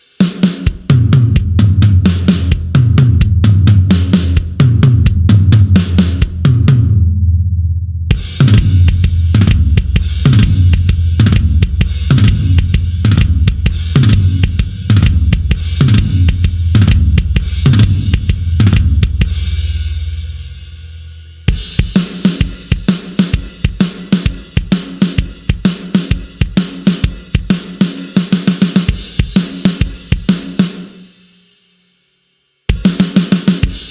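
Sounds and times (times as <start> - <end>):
rock drum kit groove: 0.0 - 7.1, 8.1 - 31.4, 32.7 - 33.9.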